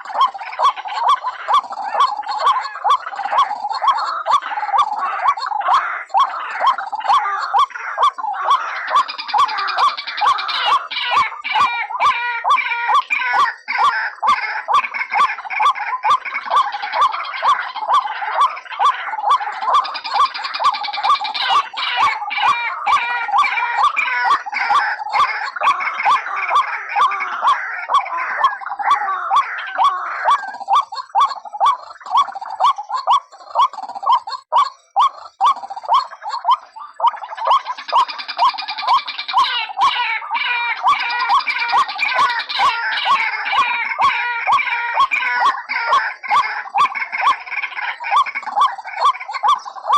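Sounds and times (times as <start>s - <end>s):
harsh bird chatter: 0.0s - 49.9s
waterhen calling: 0.0s - 49.9s.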